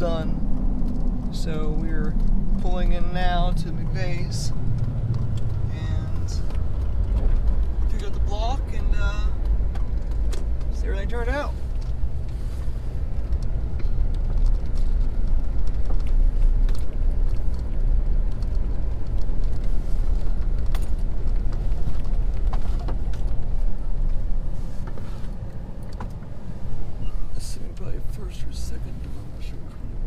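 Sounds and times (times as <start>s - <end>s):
vehicle engine and road rumble: 0.0s - 30.0s.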